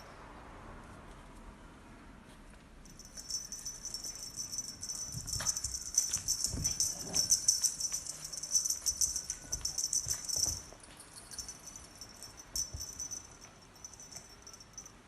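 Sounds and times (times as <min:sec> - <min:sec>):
high-pitched metallic jingling: 0:02.8 - 0:15.0.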